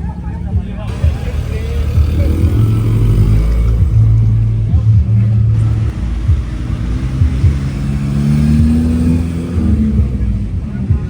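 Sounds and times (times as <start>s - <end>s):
car engine running low revs: 0.0s - 11.0s.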